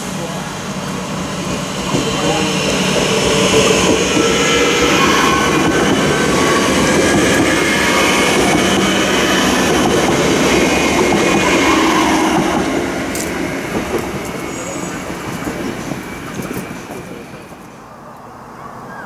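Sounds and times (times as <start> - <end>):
train wheels rushing on track: 0.0 - 18.5.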